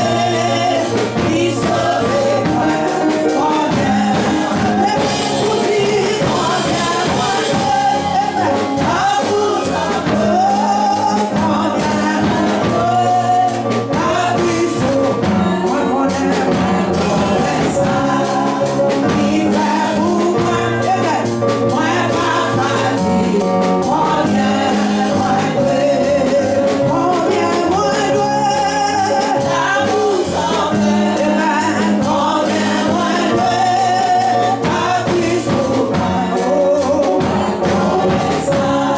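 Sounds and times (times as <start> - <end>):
gospel singing with instruments: 0.0 - 38.9.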